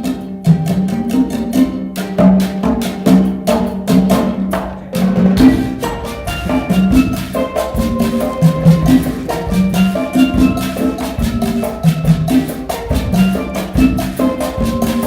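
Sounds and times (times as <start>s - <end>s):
hand drums playing: 0.0s - 15.0s.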